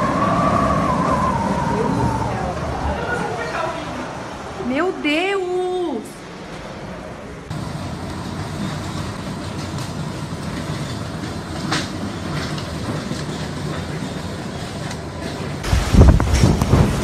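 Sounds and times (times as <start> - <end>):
strong wind buffeting microphone: 0.0 - 14.9, 15.6 - 17.0.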